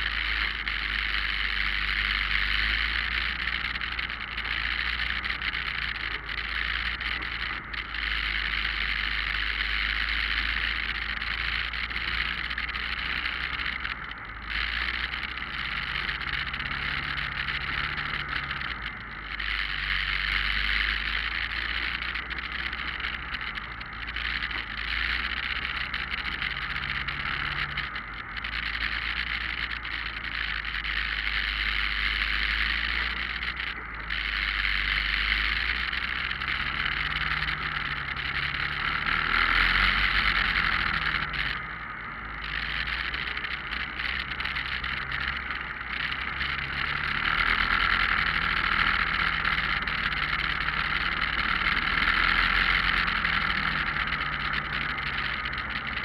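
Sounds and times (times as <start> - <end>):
motorcycle engine hum: 0.0 - 56.0
wind and road noise: 0.0 - 56.0.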